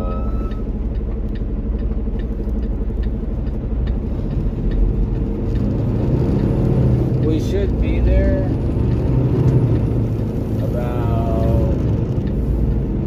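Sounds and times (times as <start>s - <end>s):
diesel engine running: 0.0s - 13.0s
road noise: 0.0s - 13.0s.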